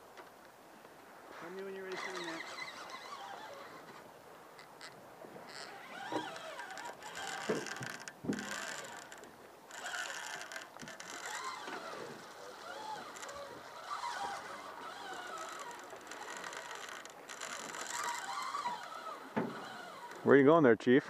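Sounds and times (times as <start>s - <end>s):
fishing reel clicking: 1.5s - 3.9s, 4.8s - 20.3s.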